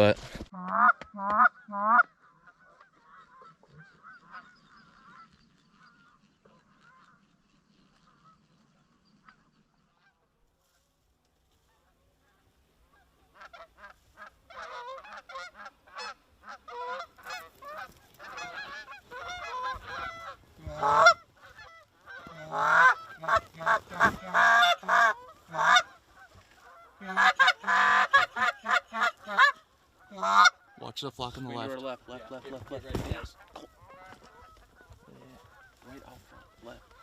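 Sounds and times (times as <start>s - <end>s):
geese honking and clucking: 0.5s - 37.0s.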